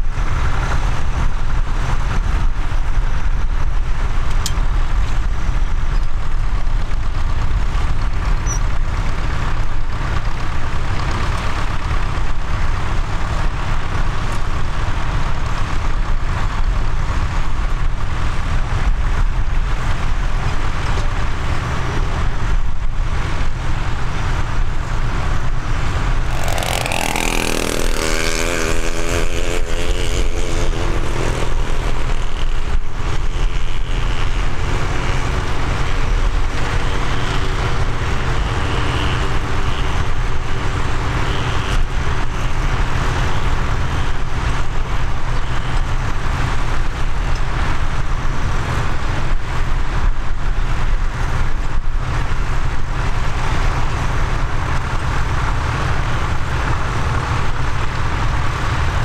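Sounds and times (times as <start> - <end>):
tractor engines rumbling: 0.0 - 59.0.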